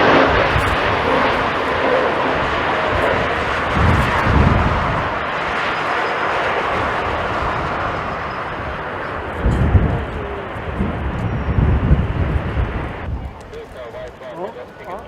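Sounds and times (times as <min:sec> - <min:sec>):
jet engines roaring: 0:00.0 - 0:15.0
wind buffeting microphone: 0:00.0 - 0:15.0.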